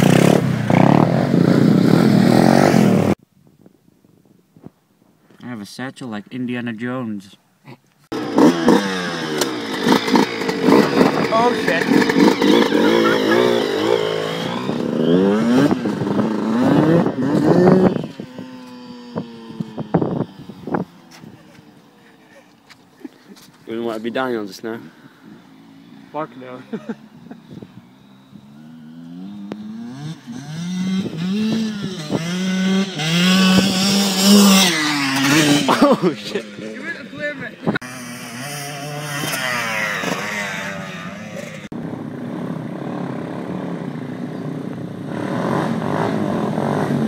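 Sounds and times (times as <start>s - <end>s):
motorbike engine revving and idling: 0.0s - 3.2s, 8.1s - 21.9s, 25.1s - 47.0s.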